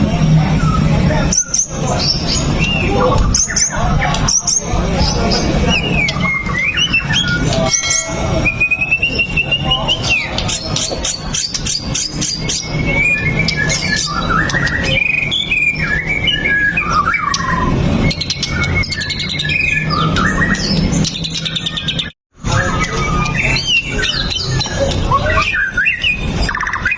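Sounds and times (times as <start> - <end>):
songbird singing whistled phrases: 0.5 - 26.9.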